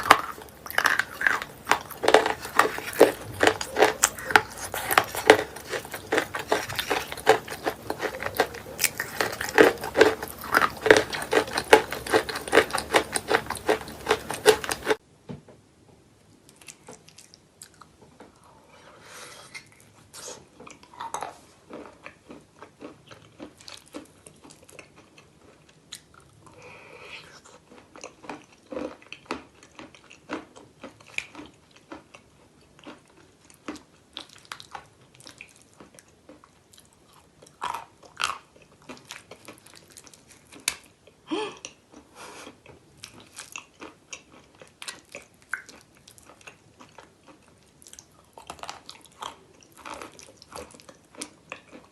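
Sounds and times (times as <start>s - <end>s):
chalk crunching and chewing: 0.0s - 15.0s, 16.4s - 18.5s, 19.3s - 51.9s.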